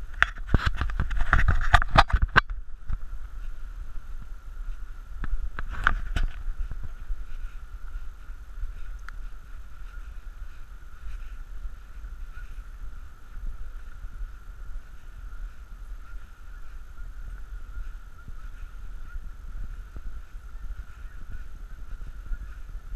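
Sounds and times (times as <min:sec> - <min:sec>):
microphone handling noise: 0:00.0 - 0:22.9
soft footsteps on dirt: 0:00.0 - 0:22.9.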